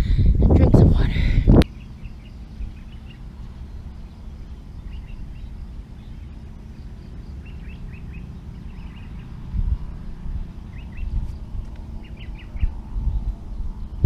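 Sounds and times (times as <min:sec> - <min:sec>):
steady low rumble: 0:00.0 - 0:14.0
small birds chirping: 0:01.6 - 0:14.0.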